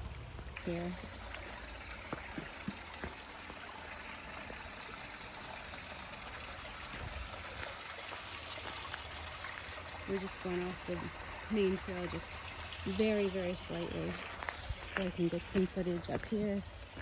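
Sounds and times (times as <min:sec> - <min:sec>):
stream trickling over rocks: 0:00.0 - 0:17.0.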